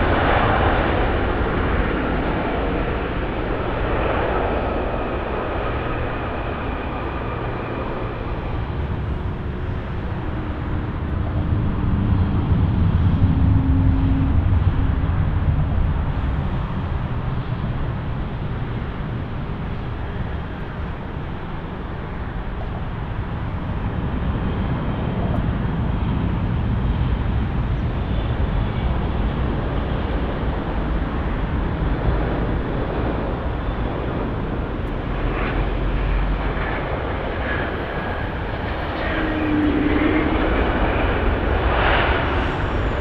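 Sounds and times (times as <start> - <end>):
airliner engines rumbling: 0.0 - 43.0.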